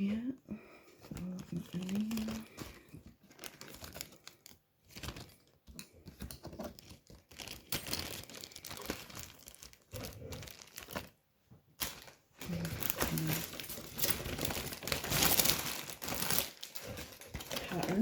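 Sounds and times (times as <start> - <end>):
packaging crinkling and rustling: 0.9 - 18.0.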